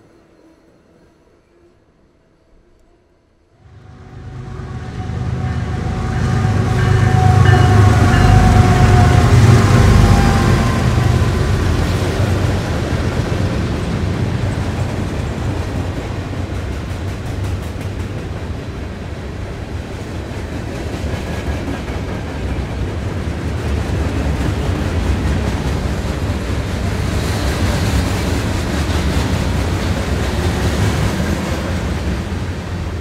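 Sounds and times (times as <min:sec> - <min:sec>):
train passing rumble: 0:03.6 - 0:33.0.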